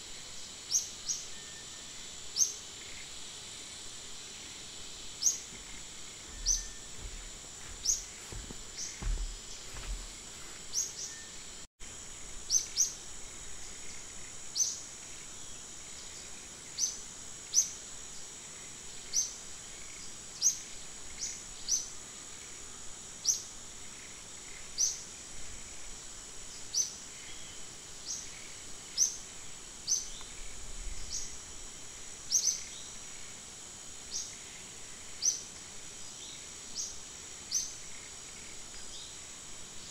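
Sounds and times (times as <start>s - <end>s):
insect drone: 0.0s - 39.9s.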